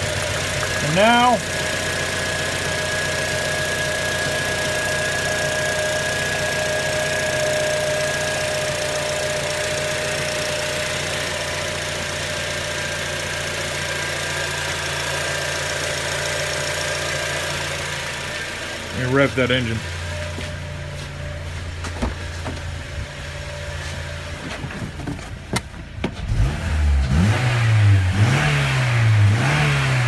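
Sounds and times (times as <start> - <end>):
car engine idling: 0.0 - 28.3.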